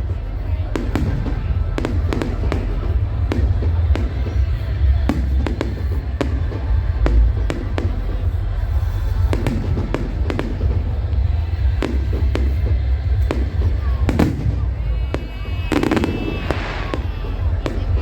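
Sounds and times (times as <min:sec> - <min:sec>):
deep rumble: 0:00.0 - 0:18.0
fireworks bangs and cracks: 0:00.0 - 0:18.0.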